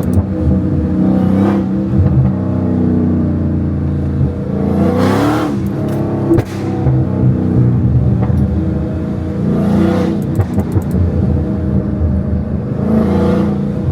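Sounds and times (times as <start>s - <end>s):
car engine revving loudly: 0.0s - 13.9s.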